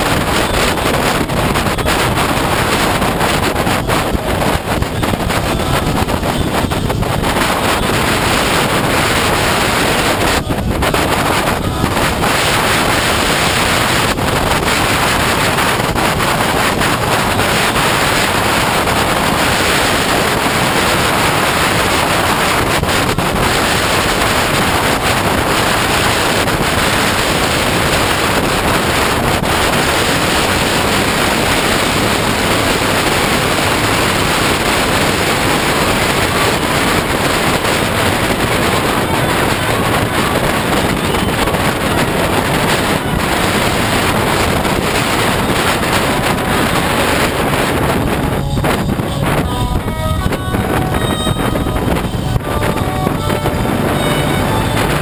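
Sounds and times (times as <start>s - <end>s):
motorcycle road noise: 0.0s - 55.0s
wind rush on microphone: 0.0s - 55.0s.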